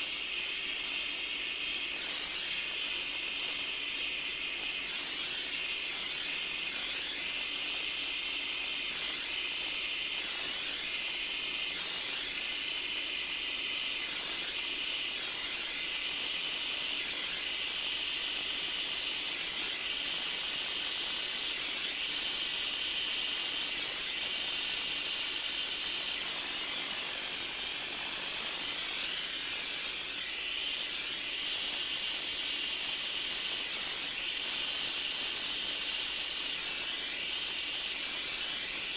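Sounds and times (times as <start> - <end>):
gas torch hissing: 0.0 - 38.9.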